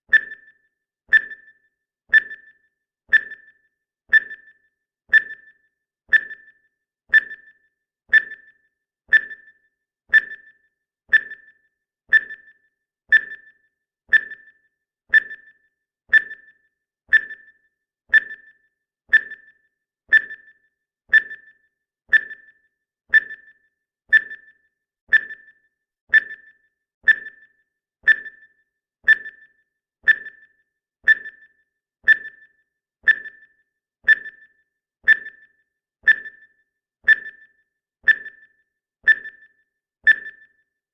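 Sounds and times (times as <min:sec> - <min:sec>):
timer pinging ticks: 0:00.0 - 0:40.8.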